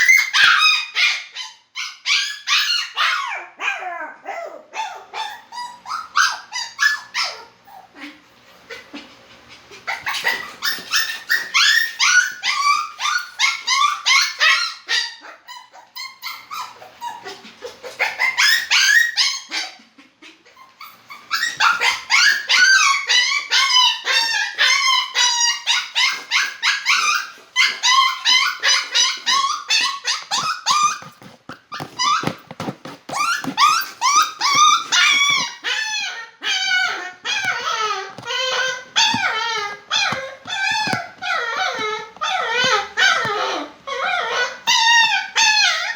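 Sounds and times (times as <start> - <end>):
dog whining and yipping: 0.0 - 8.1, 9.7 - 19.8, 20.4 - 45.9.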